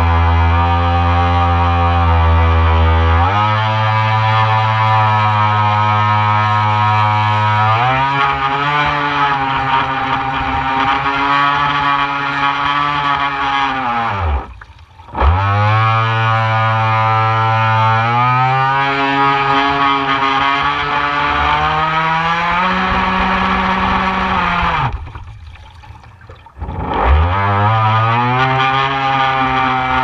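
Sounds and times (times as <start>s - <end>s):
model boat motor whining: 0.0s - 25.1s, 26.6s - 30.0s.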